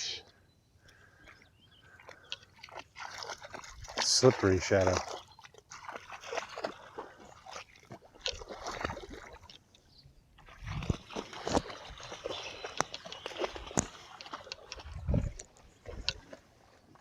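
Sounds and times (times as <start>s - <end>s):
water sloshing and splashing: 0.8s - 17.0s.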